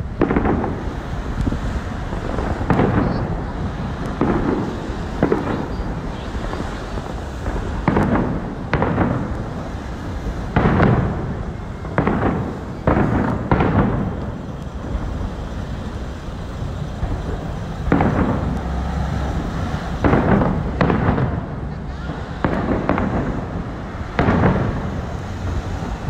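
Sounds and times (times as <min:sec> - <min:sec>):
fireworks bursting with echo: 0:00.0 - 0:26.0.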